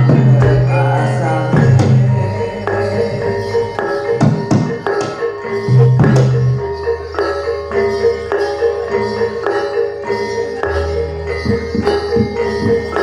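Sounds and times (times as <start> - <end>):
metallophones ringing: 0.0 - 13.0.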